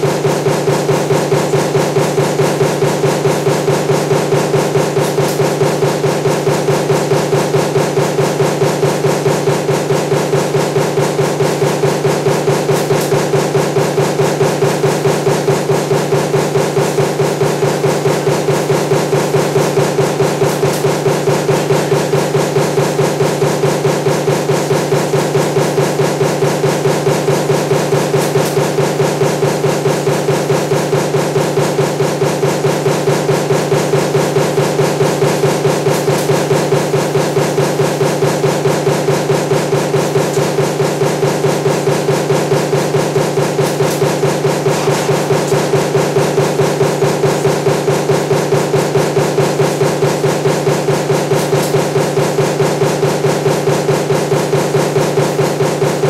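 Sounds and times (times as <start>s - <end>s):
machine hum: 0.0s - 56.0s
stamping press striking: 0.0s - 56.0s.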